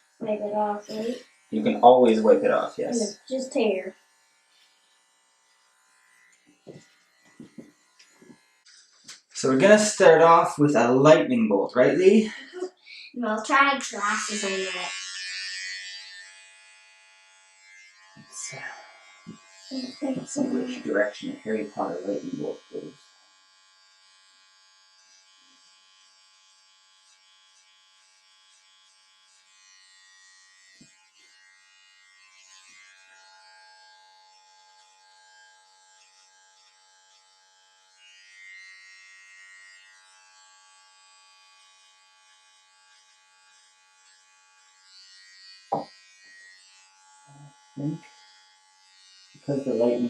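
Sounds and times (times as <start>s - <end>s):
electric hair clippers buzzing: 0.0s - 10.6s, 11.9s - 50.0s.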